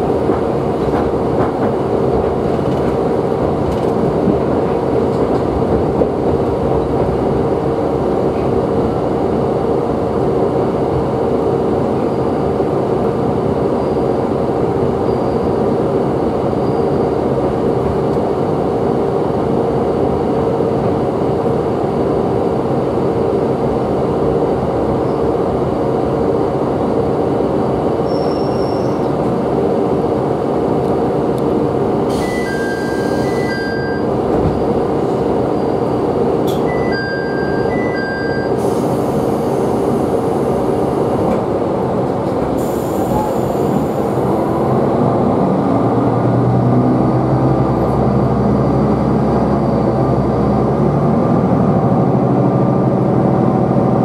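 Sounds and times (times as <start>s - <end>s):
railcar engine drone: 0.0s - 54.0s.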